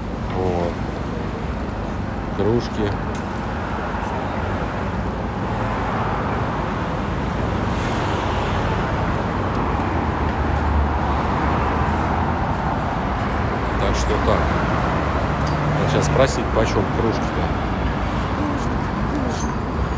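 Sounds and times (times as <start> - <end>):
city street traffic: 0.0 - 19.9.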